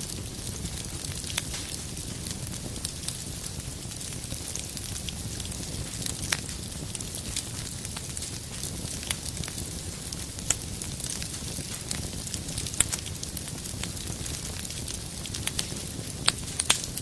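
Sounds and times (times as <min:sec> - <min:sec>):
fire rumbling and hissing: 0:00.0 - 0:17.0
firewood crackling and popping: 0:00.0 - 0:17.0.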